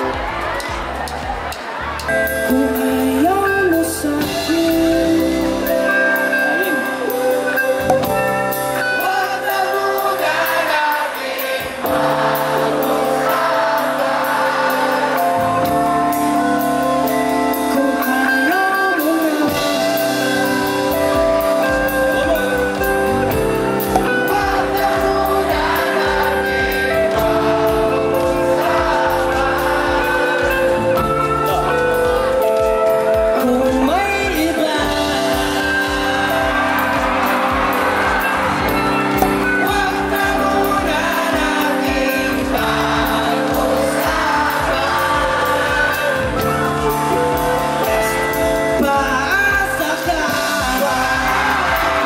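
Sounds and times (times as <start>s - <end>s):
crowd singing along: 0.0s - 52.0s
live pop band playing: 0.0s - 52.0s.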